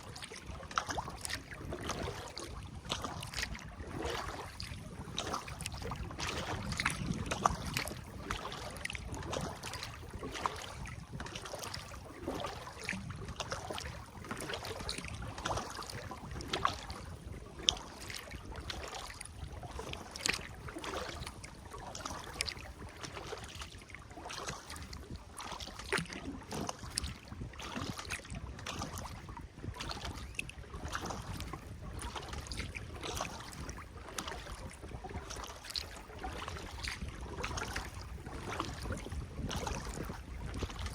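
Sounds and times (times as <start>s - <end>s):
paddle splashes and drips: 0.0s - 40.9s
wind rumble on microphone: 0.0s - 40.9s.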